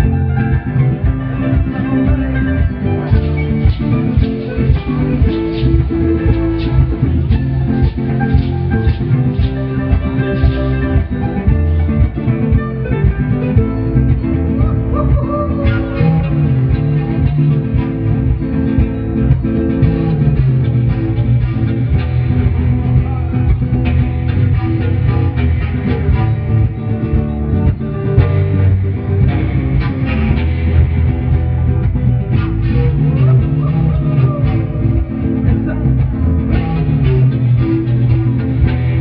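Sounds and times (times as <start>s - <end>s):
electric guitar rhythm: 0.0s - 39.0s
strummed acoustic guitar: 0.0s - 39.0s.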